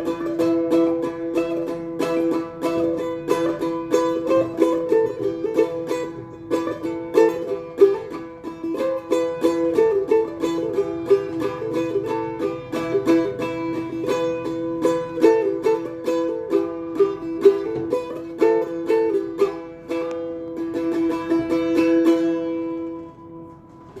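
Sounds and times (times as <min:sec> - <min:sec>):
plucked lute melody: 0:00.0 - 0:24.0.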